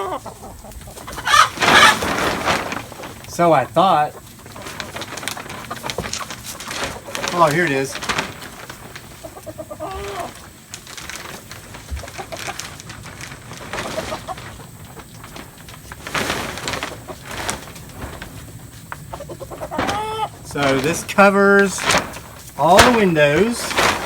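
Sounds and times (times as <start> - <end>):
chickens clucking softly: 0.0 - 7.9, 8.5 - 24.0
plastic sheeting crinkling: 0.0 - 24.0.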